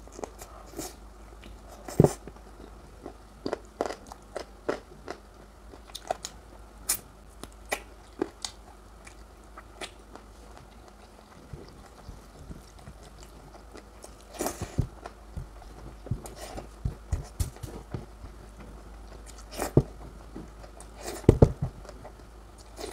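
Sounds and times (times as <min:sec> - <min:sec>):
person chewing: 0:00.0 - 0:22.9.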